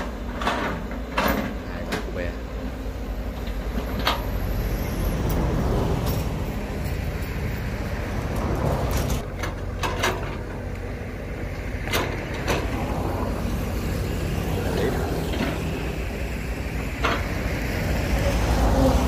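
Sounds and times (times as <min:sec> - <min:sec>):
excavator diesel engines: 0:00.0 - 0:19.0.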